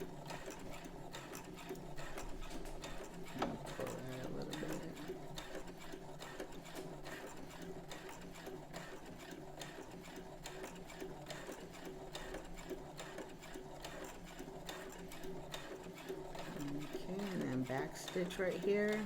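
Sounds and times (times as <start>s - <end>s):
sewing machine stitching: 0.0s - 19.0s.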